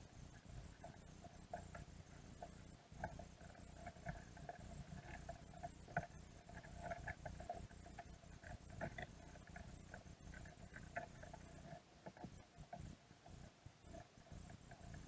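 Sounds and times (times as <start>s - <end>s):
underwater clicking and scraping: 0.0s - 15.0s.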